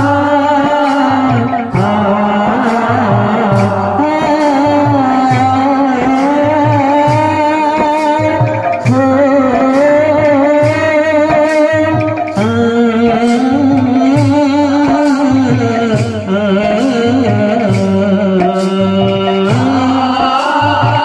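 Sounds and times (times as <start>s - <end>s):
barrel drum beats: 0.0s - 21.0s
wavering sung melody: 0.0s - 21.0s.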